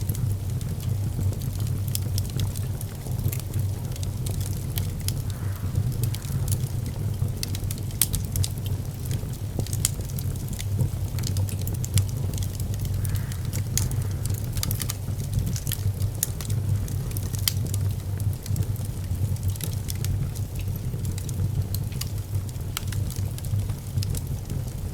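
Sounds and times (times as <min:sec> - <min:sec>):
fire low rumble: 0:00.0 - 0:24.9
wood fire crackling: 0:00.0 - 0:24.9.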